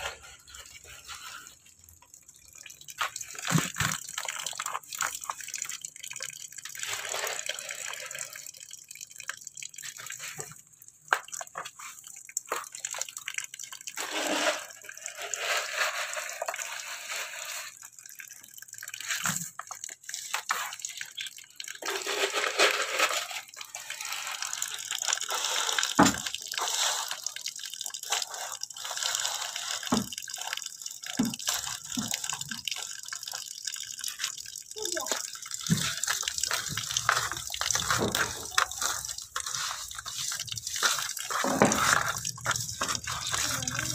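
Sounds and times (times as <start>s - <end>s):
tap water splashing into bucket: 0.0s - 43.9s.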